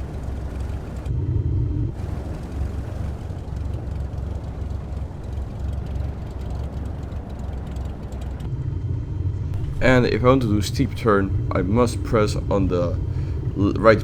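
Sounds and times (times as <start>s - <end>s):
light aircraft engine and propeller: 0.0s - 14.0s.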